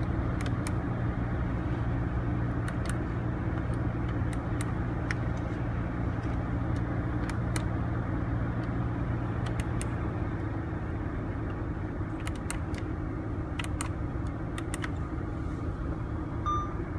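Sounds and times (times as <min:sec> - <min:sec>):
air conditioning air rushing: 0:00.0 - 0:16.9
car engine idling: 0:00.0 - 0:16.9.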